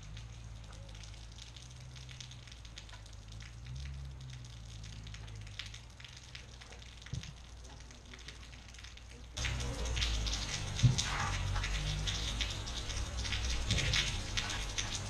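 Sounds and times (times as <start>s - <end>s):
low steady rumble: 0.0s - 15.0s
rain pattering and dripping: 0.0s - 15.0s.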